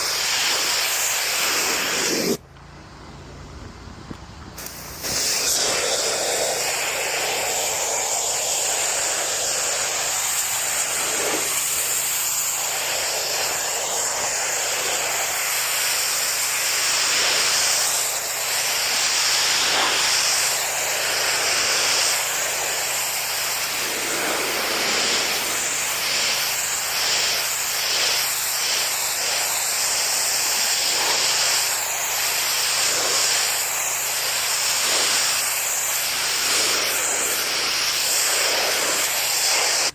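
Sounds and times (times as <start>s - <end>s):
pressure washer jet hissing: 0.0s - 2.4s, 4.5s - 39.9s.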